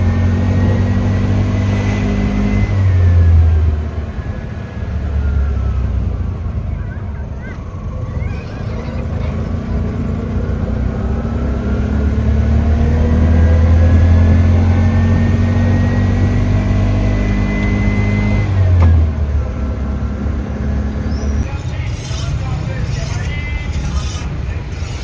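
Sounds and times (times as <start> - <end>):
vehicle engine accelerating: 0.0 - 25.0.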